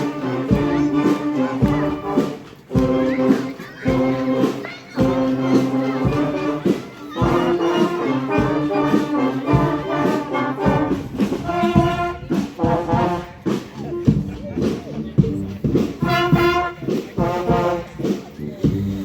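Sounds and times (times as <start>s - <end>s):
marching band playing brass: 0.0s - 19.0s.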